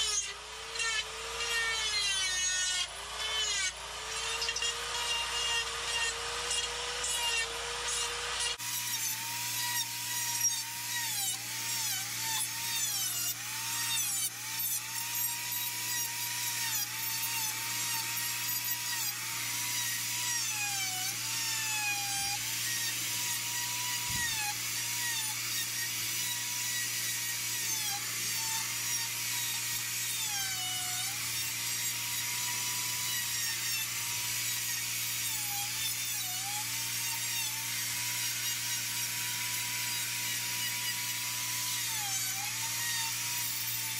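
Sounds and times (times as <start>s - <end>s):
die grinder carving wood: 0.0s - 43.9s.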